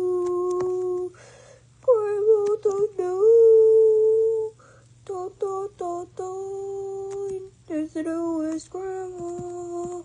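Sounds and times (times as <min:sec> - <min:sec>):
high voice humming: 0:00.0 - 0:01.2, 0:01.8 - 0:10.0.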